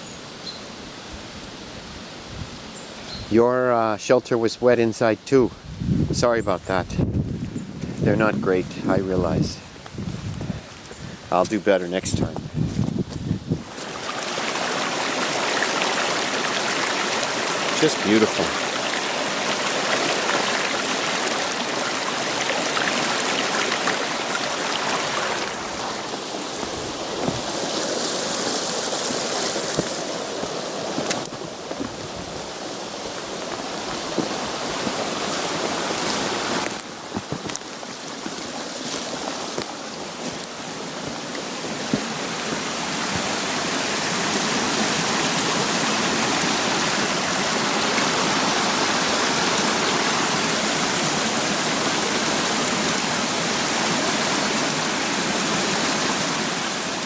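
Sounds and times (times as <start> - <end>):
creek water rushing: 6.6 - 57.0.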